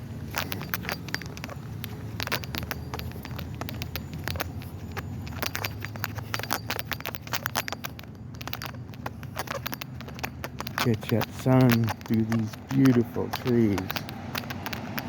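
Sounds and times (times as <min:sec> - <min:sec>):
distant traffic rumble: 0:00.0 - 0:15.0
sharp clicks and scrapes: 0:00.0 - 0:15.0.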